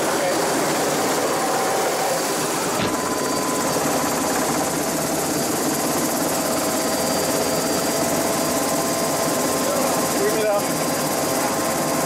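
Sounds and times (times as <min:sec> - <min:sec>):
helicopter engine and rotor noise: 0:00.0 - 0:12.0.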